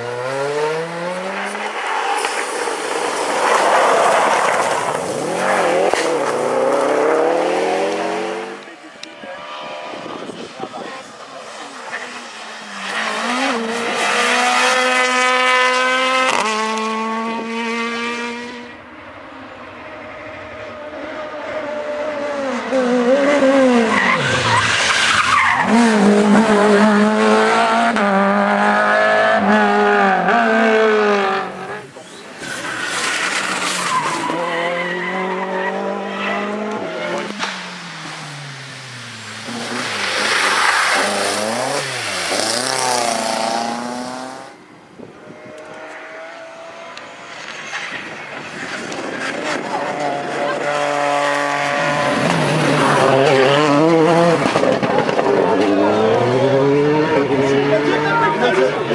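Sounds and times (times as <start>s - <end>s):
rally car engines revving: 0.0s - 58.9s.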